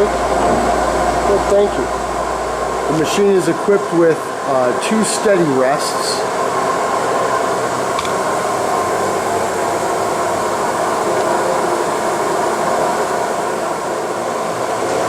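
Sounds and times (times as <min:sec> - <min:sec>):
machinery whirring hum: 0:00.0 - 0:15.0.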